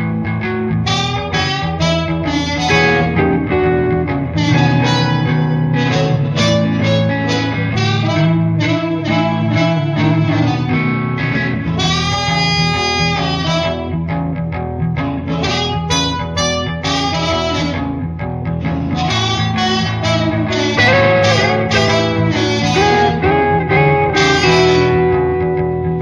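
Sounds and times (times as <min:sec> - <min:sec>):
guitar accompaniment: 0:00.0 - 0:26.0
blues harmonica: 0:00.4 - 0:26.0.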